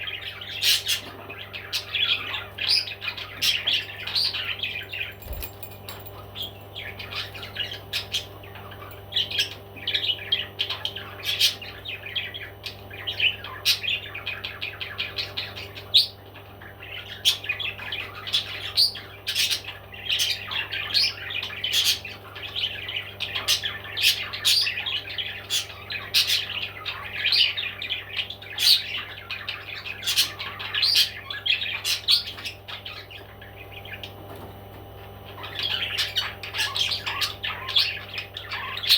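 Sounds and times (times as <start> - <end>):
parrot chirping and squawking: 0.0 - 34.1, 35.0 - 38.9.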